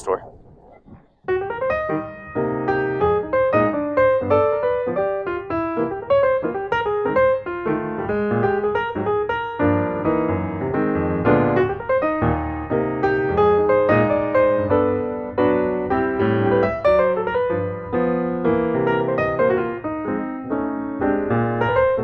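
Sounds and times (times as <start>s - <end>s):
solo piano music: 1.3s - 22.0s.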